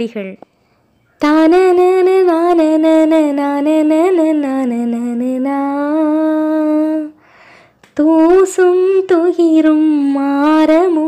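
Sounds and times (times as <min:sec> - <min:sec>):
woman singing without words: 0:01.2 - 0:07.2, 0:07.9 - 0:11.0.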